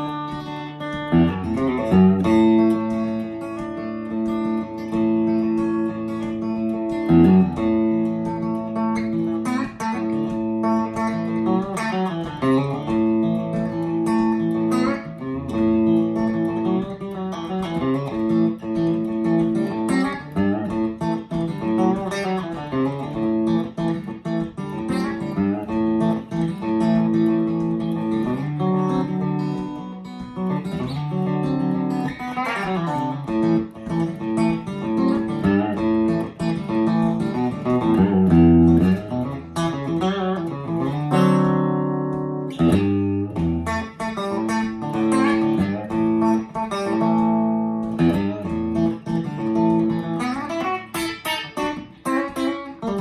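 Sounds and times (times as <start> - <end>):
clean electric guitar: 0.0 - 53.0.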